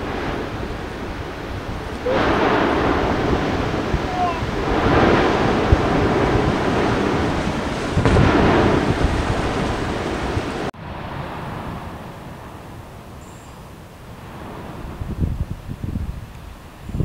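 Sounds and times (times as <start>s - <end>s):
quieter rushing noise: 0.0s - 16.1s
volcanic eruption rumble: 0.0s - 17.0s.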